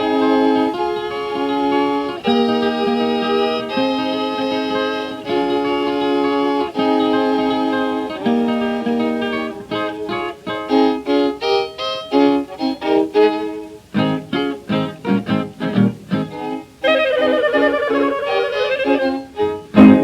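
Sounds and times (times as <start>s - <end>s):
old jazz band record: 0.0s - 20.0s.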